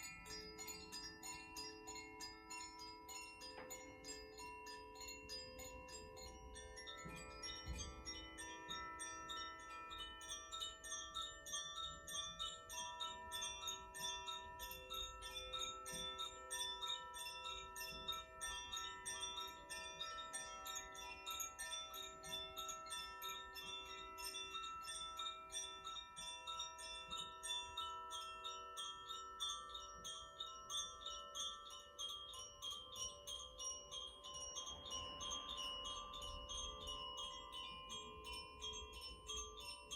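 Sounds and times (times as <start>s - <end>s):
chimes tinkling: 0.0s - 39.9s.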